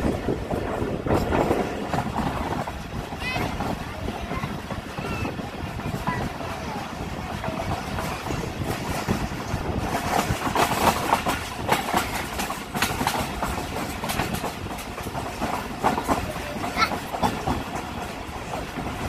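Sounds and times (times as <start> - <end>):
train rumbling on track: 0.0 - 19.0
wheels clattering on rails: 0.0 - 19.0.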